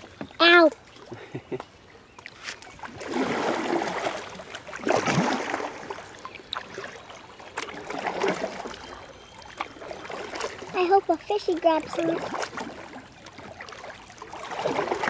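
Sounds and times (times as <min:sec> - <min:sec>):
water rushing around kayak: 0:00.0 - 0:15.0.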